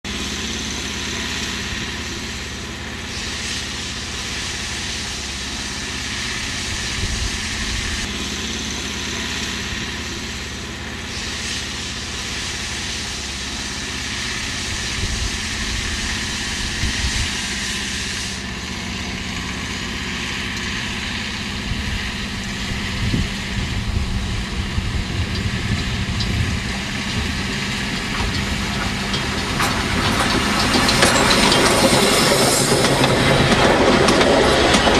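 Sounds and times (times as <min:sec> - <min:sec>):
steam locomotive rumble: 0:00.0 - 0:34.9.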